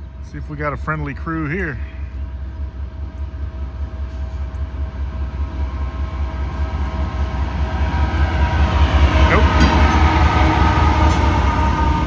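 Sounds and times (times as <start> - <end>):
diesel locomotive rumble: 0.0 - 12.0.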